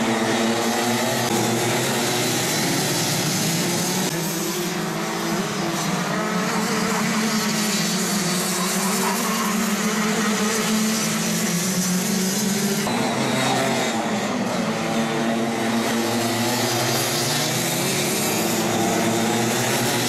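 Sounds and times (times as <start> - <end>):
kart engines high-revving buzz: 0.0 - 20.0.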